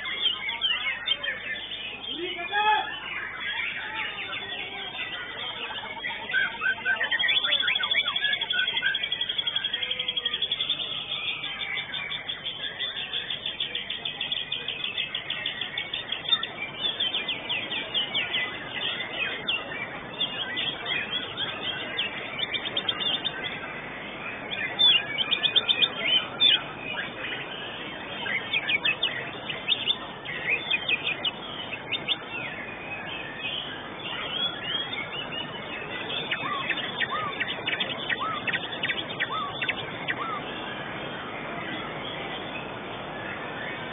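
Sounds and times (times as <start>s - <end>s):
songbird singing chirps and whistles: 0.0s - 43.9s.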